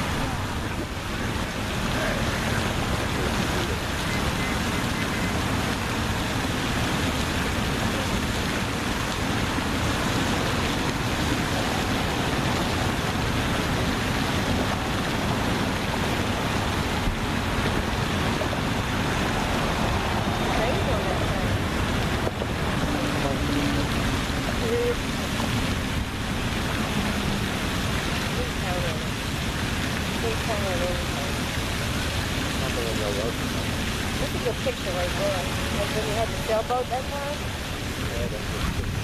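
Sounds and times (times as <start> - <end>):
water rushing: 0.0 - 39.0.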